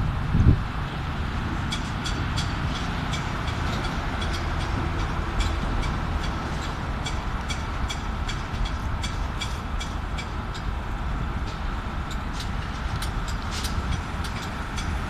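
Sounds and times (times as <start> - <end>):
pump truck low drone: 0.0 - 15.0.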